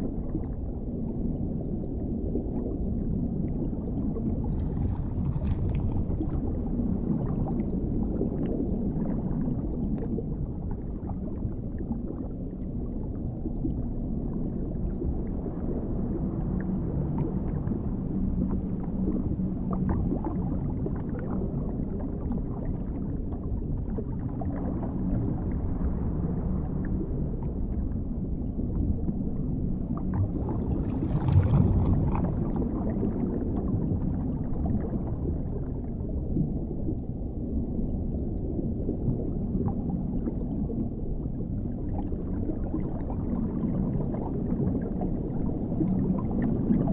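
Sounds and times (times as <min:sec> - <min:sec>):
muffled underwater rumble: 0:00.0 - 0:46.9.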